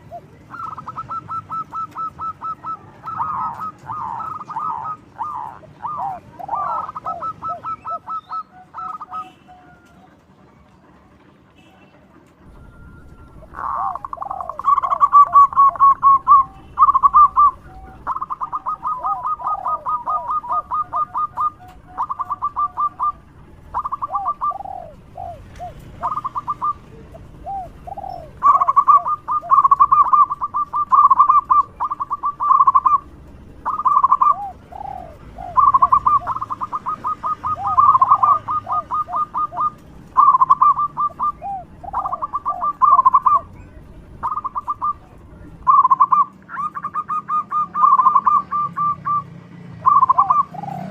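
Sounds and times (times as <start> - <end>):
dove staccato cooing: 0.0 - 10.2, 12.4 - 50.9.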